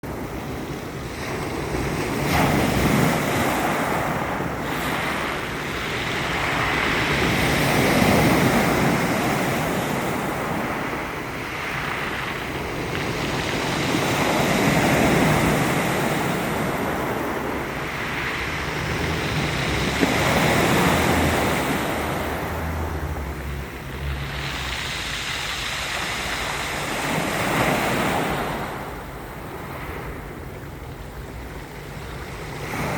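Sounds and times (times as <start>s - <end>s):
sea surf breaking on shore: 0.0s - 32.9s
wind buffeting microphone: 0.0s - 32.9s.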